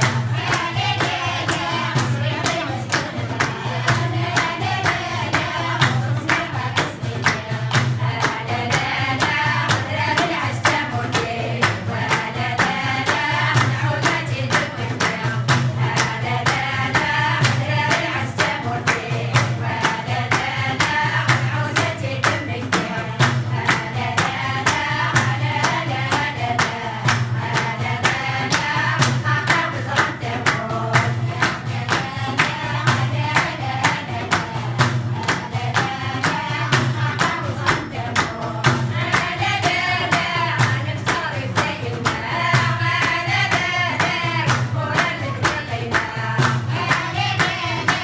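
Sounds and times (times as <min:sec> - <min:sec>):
rhythmic handclapping: 0:00.0 - 0:48.0
women singing as a choir: 0:00.0 - 0:48.0.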